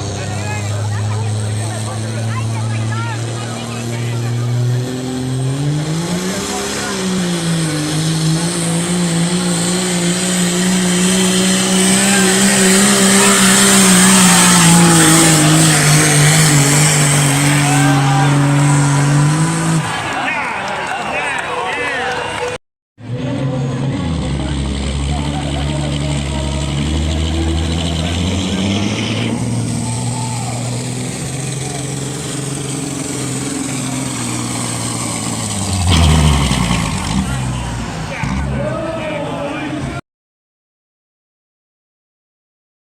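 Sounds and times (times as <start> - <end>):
tractor engine revving hard: 0.0 - 20.4, 23.0 - 40.0.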